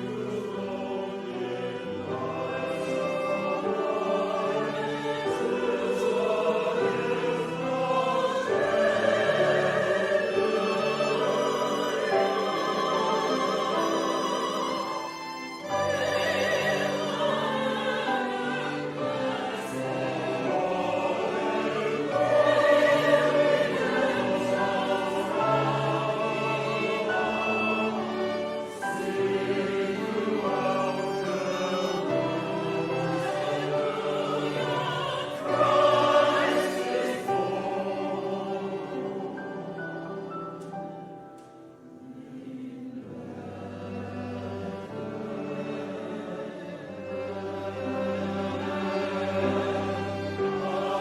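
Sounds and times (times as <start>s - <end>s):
choir singing: 0.0s - 51.0s.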